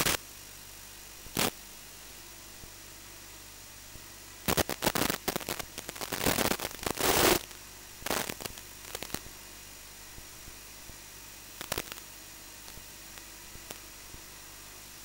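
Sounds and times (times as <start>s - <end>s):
crackling static bursts: 0.0s - 15.0s
faint steady hum: 0.0s - 15.0s.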